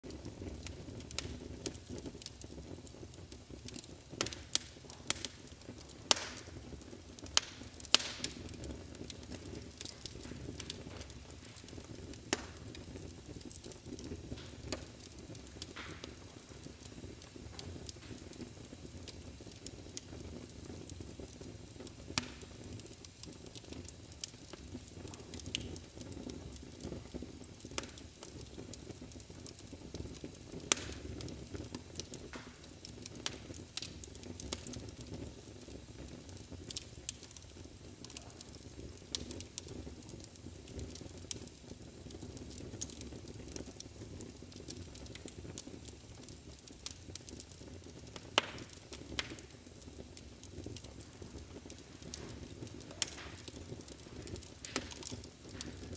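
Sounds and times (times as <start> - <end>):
fire crackling and popping: 0.0 - 55.9
fire flames rumbling: 0.0 - 55.9.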